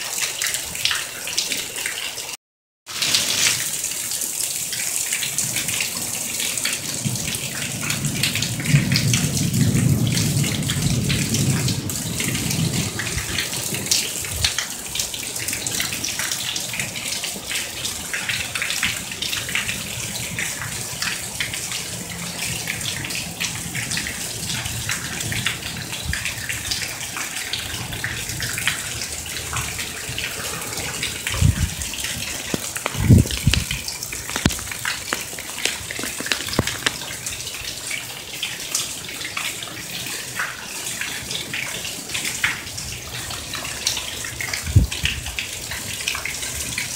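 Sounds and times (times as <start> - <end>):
heavy rain pouring off roof: 0.0 - 46.9.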